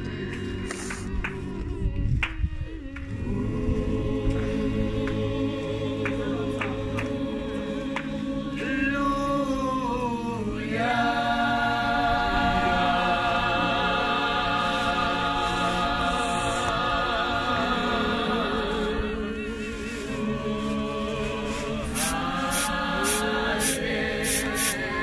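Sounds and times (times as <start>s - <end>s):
choir singing harmonies: 3.1s - 25.0s.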